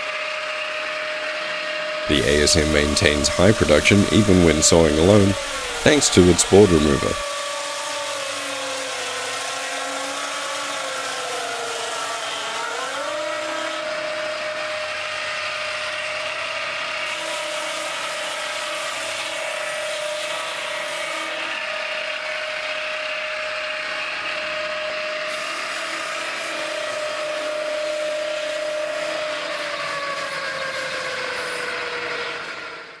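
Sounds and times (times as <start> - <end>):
circular saw blade cutting log: 0.0 - 32.5.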